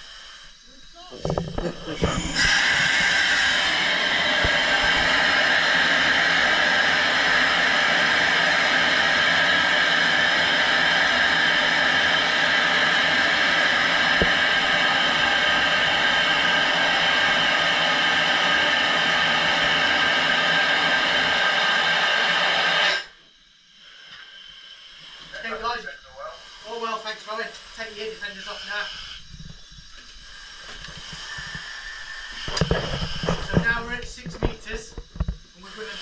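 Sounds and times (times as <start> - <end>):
air venting loud hiss: 0.0 - 36.0.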